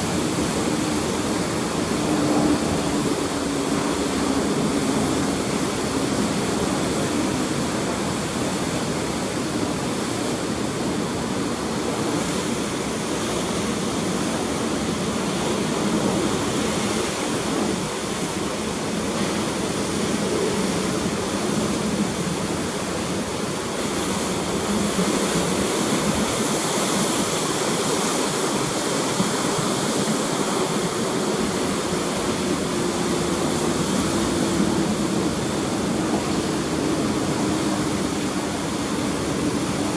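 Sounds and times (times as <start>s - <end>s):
ocean surf churning: 0.0s - 39.9s.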